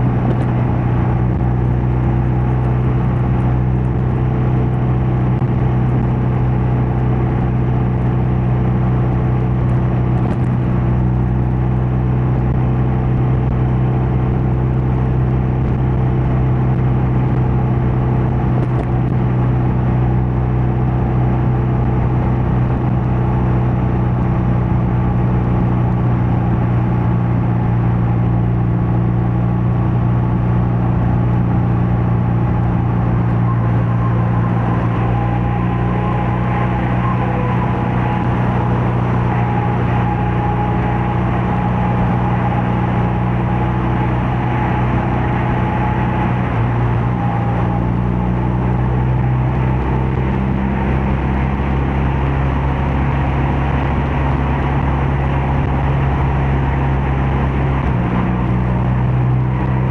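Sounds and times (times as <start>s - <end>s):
motorcycle engine droning: 0.0s - 59.9s.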